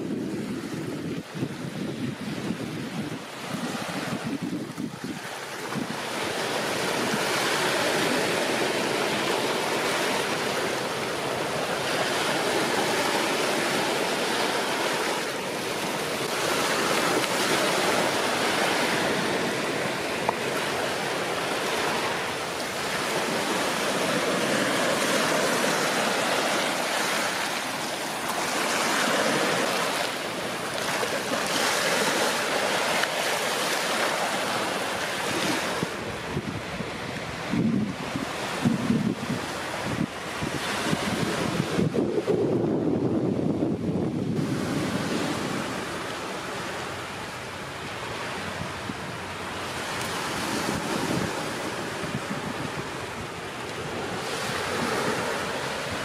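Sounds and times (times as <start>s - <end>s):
surf washing over rocks: 0.0s - 56.0s.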